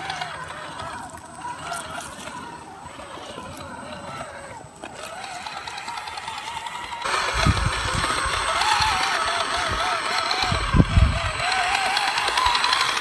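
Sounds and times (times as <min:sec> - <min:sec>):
electric motor and gear whine: 0:00.0 - 0:13.0.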